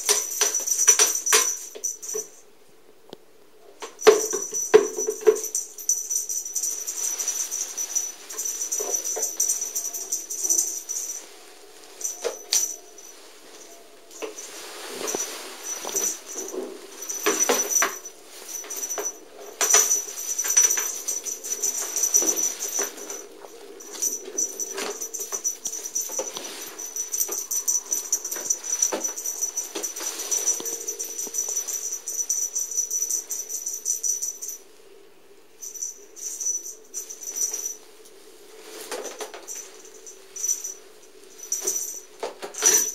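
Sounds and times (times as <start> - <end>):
faint high ringing: 0.0 - 2.8, 3.6 - 42.9.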